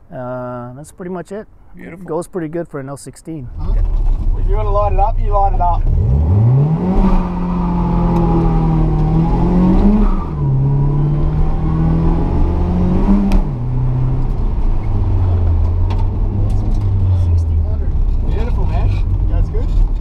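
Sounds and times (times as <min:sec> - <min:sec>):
car engine accelerating hard: 0:03.5 - 0:20.0.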